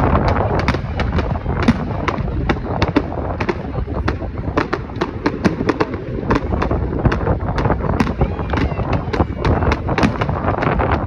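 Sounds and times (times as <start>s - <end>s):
fireworks popping and banging: 0.0s - 11.0s
low rumble: 0.0s - 11.0s.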